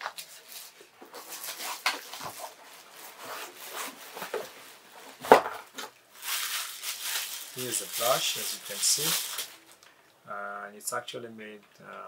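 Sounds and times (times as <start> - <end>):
packaging rustling and rubbing: 0.0 - 9.8.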